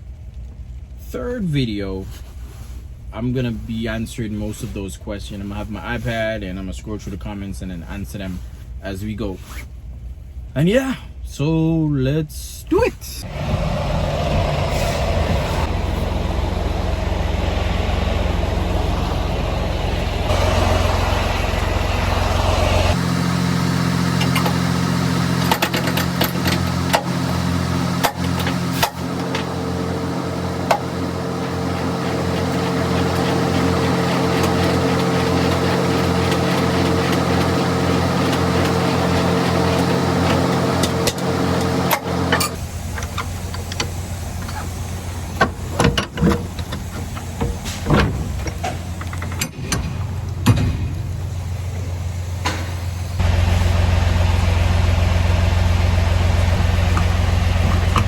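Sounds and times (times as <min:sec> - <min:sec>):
truck engine drone in cab: 0:00.0 - 0:58.0.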